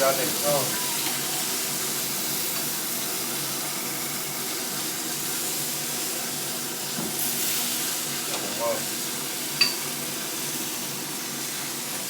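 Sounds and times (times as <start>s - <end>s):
chicken wings sizzling on a grill: 0.0s - 12.0s.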